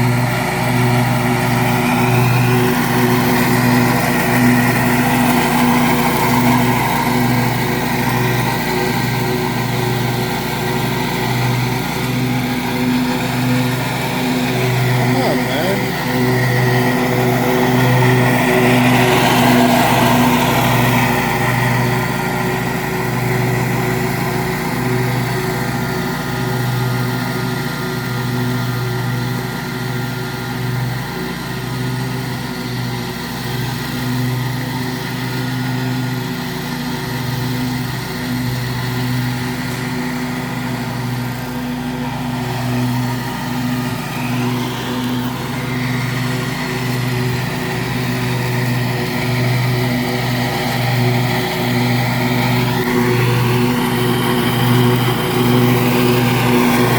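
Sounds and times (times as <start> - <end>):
mower engine running: 0.0 - 56.9.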